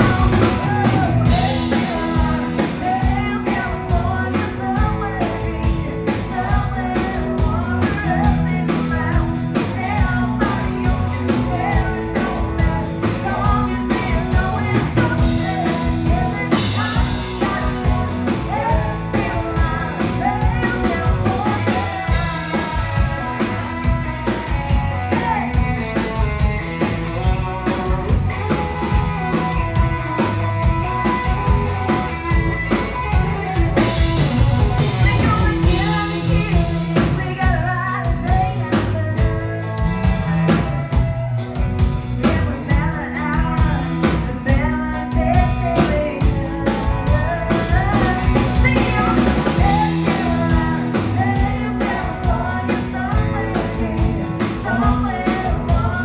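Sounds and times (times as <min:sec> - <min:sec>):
country band playing: 0:00.0 - 0:56.0
person singing: 0:00.0 - 0:56.0.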